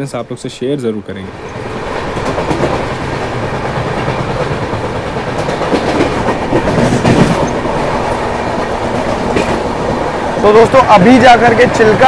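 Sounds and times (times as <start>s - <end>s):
rail joints clacking: 0.0s - 12.0s
train wheels rumbling on rail: 0.0s - 12.0s.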